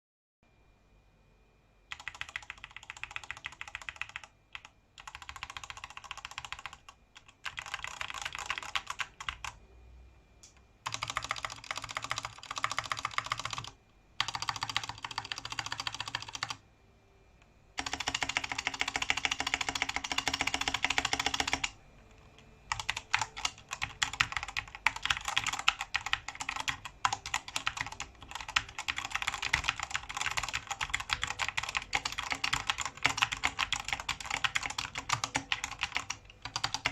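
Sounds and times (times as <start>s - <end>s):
mechanical keyboard typing: 1.9s - 9.6s, 10.5s - 16.6s, 17.8s - 36.9s.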